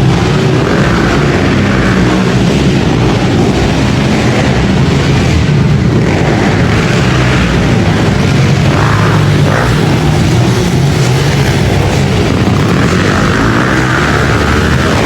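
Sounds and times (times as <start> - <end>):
dirt bike engines racing: 0.0 - 15.0.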